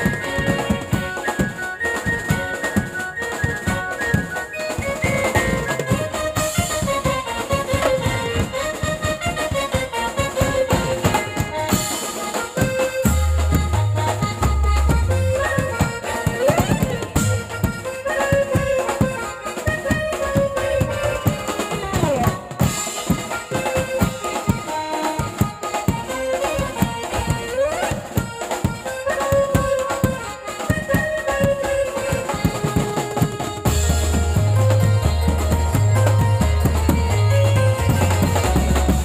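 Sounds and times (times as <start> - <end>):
electronic keyboard melody: 0.0 - 39.0
street band drumming: 0.0 - 39.0.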